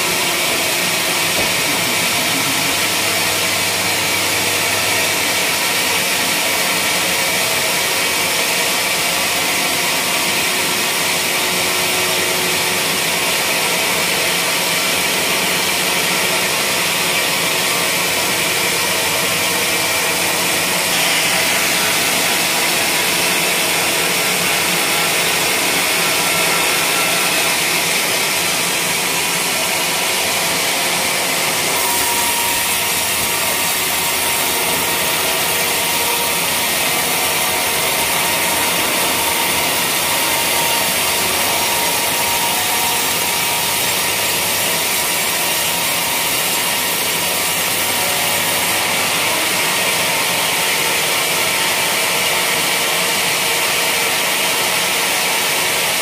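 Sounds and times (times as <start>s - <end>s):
band saw cutting log: 0.0s - 56.0s
sawmill machinery running: 0.0s - 56.0s.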